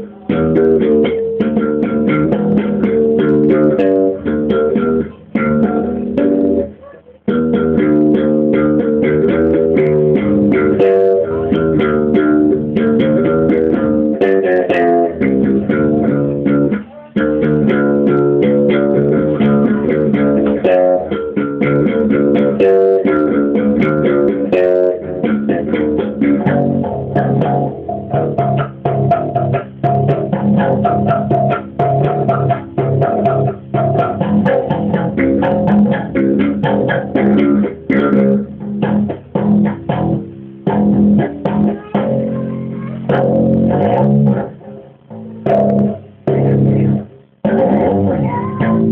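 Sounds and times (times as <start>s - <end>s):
slap bass guitar: 0.0s - 48.9s.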